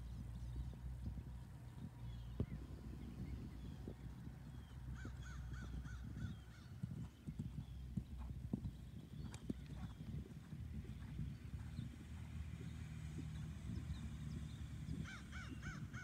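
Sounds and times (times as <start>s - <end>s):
horse hoofbeats on grass: 0.2s - 15.4s.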